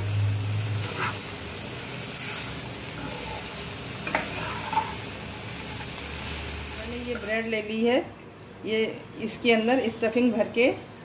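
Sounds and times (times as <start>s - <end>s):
food frying and sizzling: 0.0s - 10.6s.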